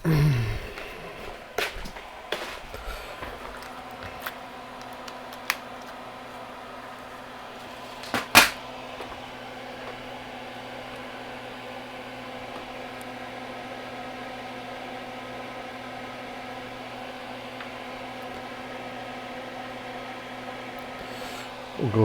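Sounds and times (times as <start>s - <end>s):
electric fan motor humming: 0.0s - 22.0s.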